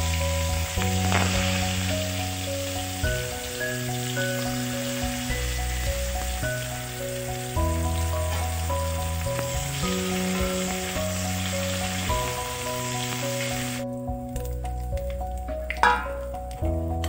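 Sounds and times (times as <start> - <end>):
hot oil sizzling in a wok: 0.0 - 14.5
slow background music: 0.0 - 17.0.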